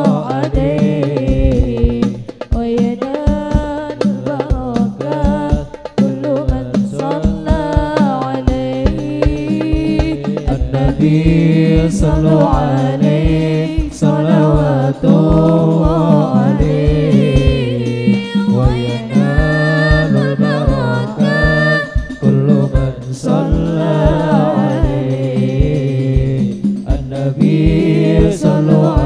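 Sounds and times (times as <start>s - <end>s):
amplified voices singing: 0.0s - 29.0s
frame drums beating: 0.0s - 29.0s.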